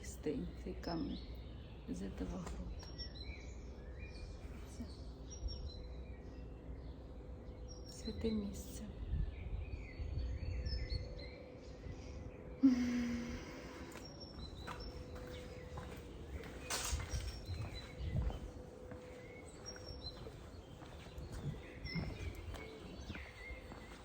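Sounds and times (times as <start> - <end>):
faint steady hum: 0.0 - 24.0
small birds chirping: 0.0 - 24.0.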